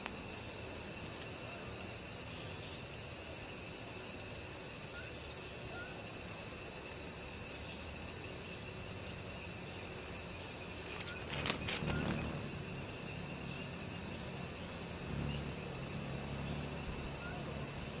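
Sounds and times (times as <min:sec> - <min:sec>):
night insects singing: 0:00.0 - 0:18.0.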